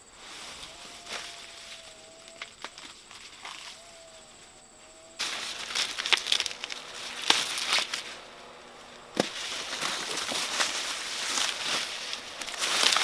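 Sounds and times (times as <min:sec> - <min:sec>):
dry corn leaves rustling: 0:00.0 - 0:13.0.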